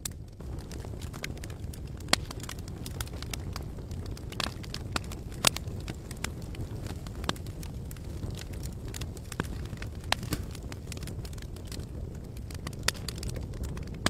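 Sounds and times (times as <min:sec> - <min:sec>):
campfire crackling and popping: 0:00.0 - 0:14.0
low steady fire rumble: 0:00.0 - 0:14.0.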